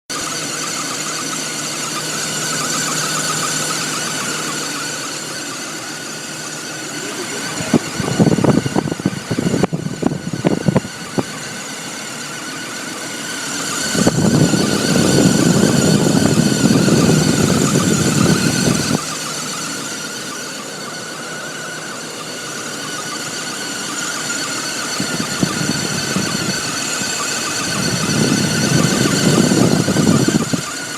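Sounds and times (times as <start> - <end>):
car engine running: 0.1 - 30.9
high-pitched whine: 0.1 - 30.9.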